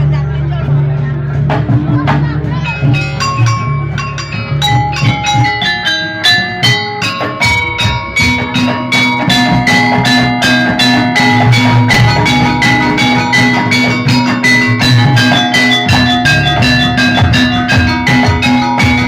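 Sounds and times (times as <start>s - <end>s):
drums: 0.0s - 19.0s
metal keyed percussion melody: 2.2s - 19.0s.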